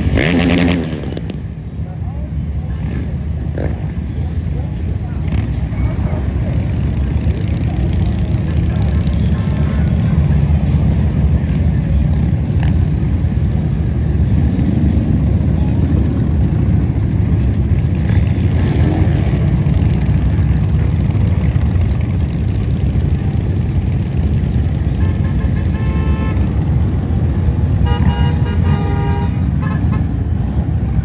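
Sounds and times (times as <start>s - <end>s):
motorcycle engine revving: 0.0s - 29.3s
motorcycle engines rumbling past: 0.0s - 31.0s.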